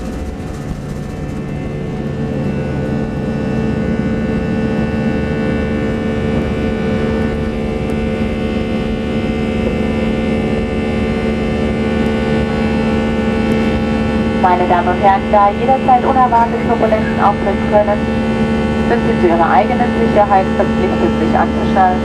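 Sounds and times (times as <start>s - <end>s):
jet engines at takeoff thrust: 0.0s - 22.0s.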